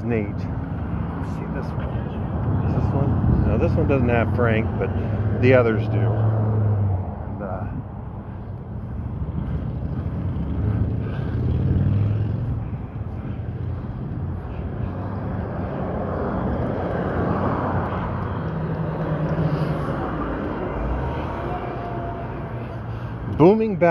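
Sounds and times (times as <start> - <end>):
cars driving past: 0.0 - 23.9.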